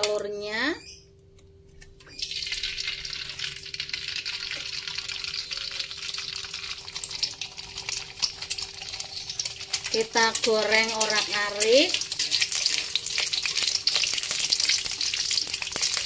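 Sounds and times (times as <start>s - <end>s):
egg sizzling in hot oil: 2.1s - 16.0s.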